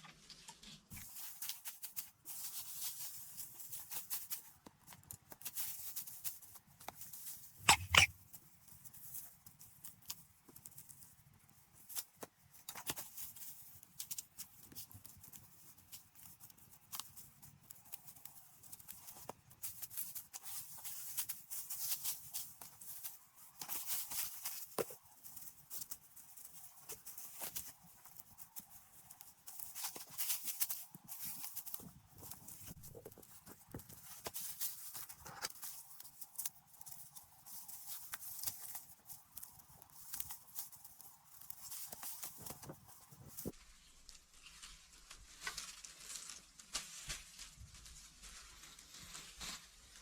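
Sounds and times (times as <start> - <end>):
rustling: 0.0 - 50.0.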